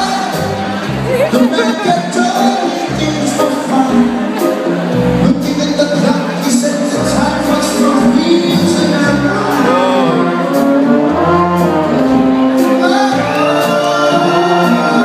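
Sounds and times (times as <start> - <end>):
bass line: 0.0 - 15.0
live band playing: 0.0 - 15.0
man singing: 1.2 - 11.7, 12.6 - 15.0.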